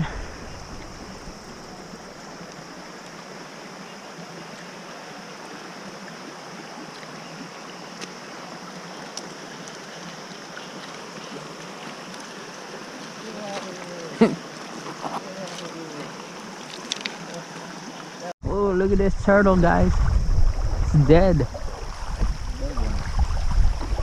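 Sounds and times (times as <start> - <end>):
creek water flowing: 0.0 - 24.0.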